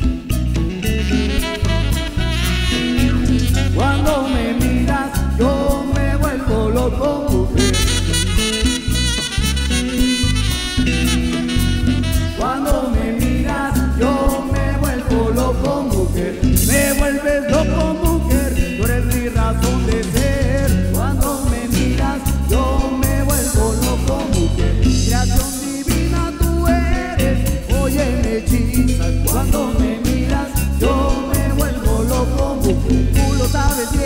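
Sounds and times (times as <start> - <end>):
latin dance band music: 0.0 - 34.0.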